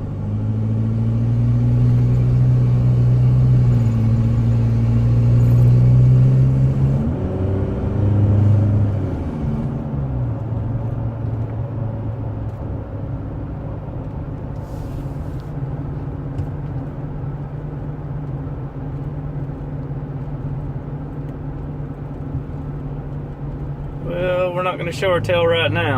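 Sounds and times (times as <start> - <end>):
diesel engine while driving: 0.0 - 25.9.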